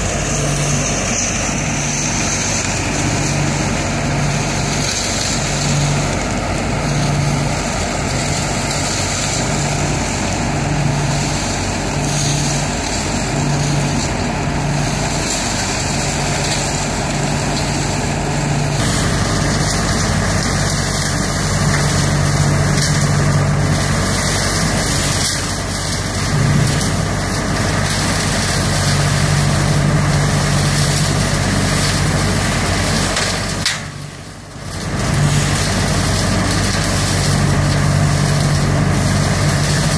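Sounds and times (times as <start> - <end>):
leaf vacuum engine and fan: 0.0 - 39.9
leaves sucked through hose: 0.0 - 39.9.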